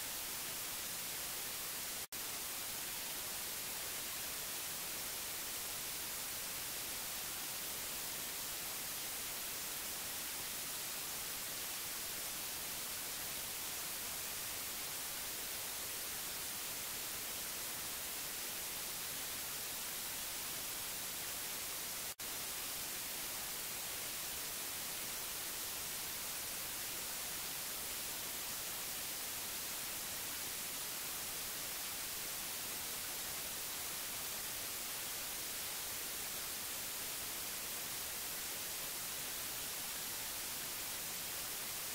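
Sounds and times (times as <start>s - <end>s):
television static hiss: 0.0s - 41.9s.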